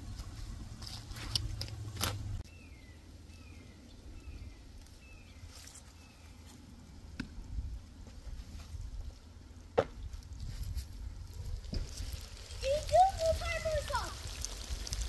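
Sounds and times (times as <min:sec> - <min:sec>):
low outdoor rumble: 0:00.0 - 0:05.5, 0:06.2 - 0:15.0.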